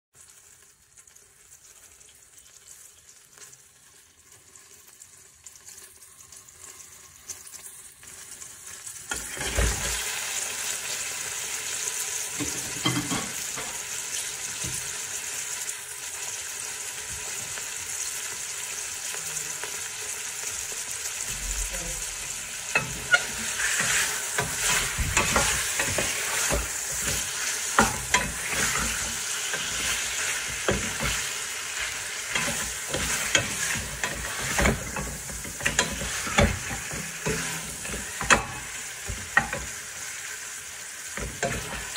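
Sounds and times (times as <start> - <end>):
meat sizzling in hot oil: 0.2 - 41.9.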